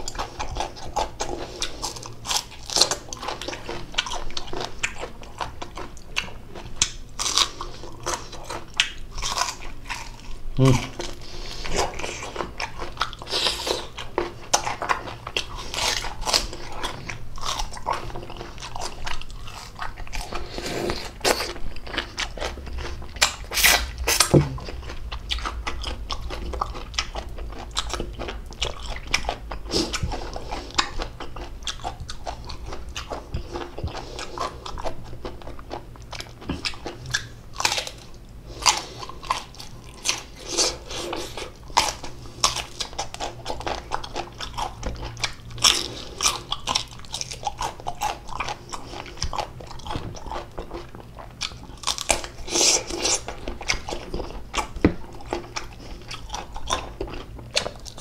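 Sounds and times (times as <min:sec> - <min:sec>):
crunchy chewing of mango: 0:00.0 - 0:58.0.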